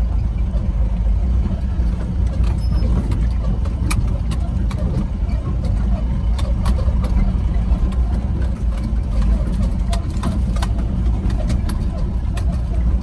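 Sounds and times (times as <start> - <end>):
diesel engine rumble: 0.0 - 13.0
sharp knocks and rattles: 1.4 - 13.0.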